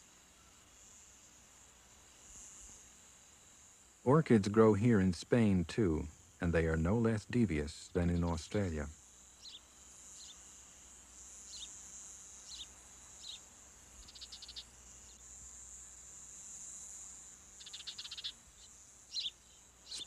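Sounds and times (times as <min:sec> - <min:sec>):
high-pitched insect drone: 0:00.0 - 0:20.0
insect chirps: 0:00.0 - 0:20.0
insect trills: 0:00.0 - 0:20.0.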